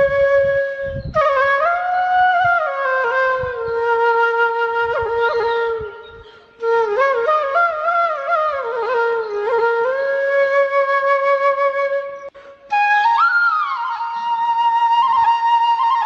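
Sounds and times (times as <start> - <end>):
solo wind instrument melody: 0.0 - 16.0.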